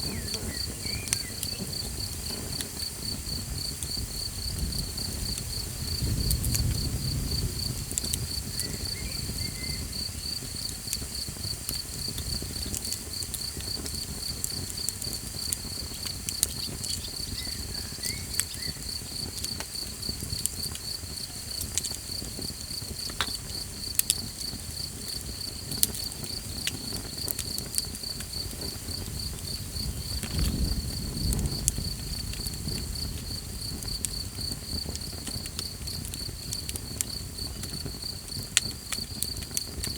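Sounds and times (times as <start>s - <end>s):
campfire popping and crackling: 0.0s - 39.9s
crickets trilling: 0.0s - 39.9s.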